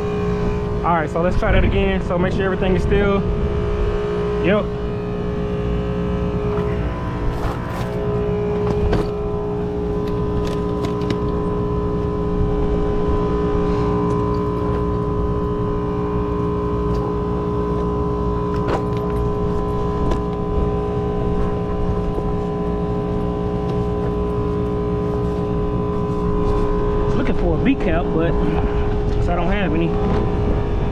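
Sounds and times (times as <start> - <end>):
air conditioner humming: 0.0 - 30.9.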